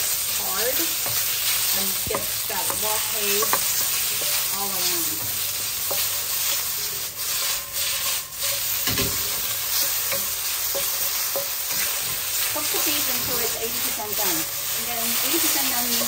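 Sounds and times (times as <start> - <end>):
beef sizzling in oil: 0.0 - 16.0
wooden spatula stirring in wok: 0.0 - 16.0.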